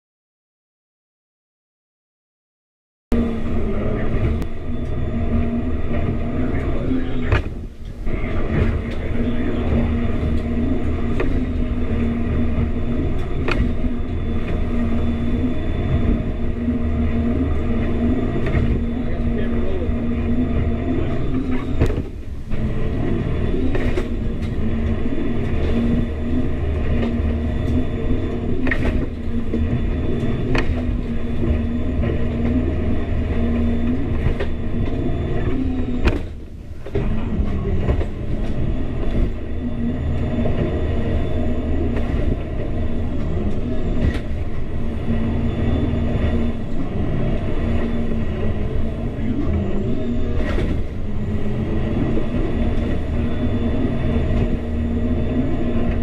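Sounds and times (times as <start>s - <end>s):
boat engines droning: 3.1s - 56.0s.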